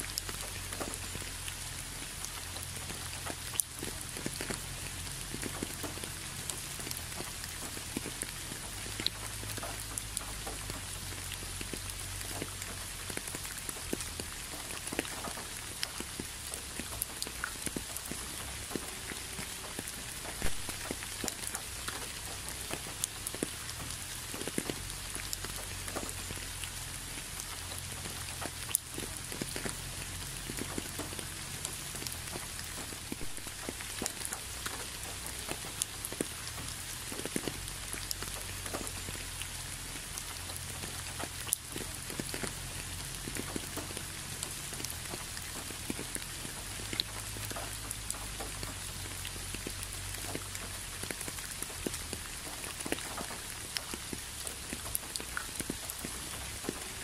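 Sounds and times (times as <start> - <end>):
raindrops tapping: 0.0 - 57.0
steady rain hiss: 0.0 - 57.0.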